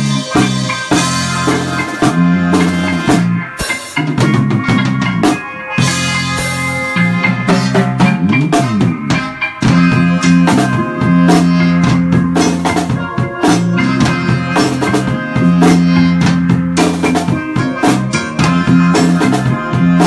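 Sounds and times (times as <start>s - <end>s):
drum kit playing: 0.0s - 20.0s
reggae backing track: 0.0s - 20.0s.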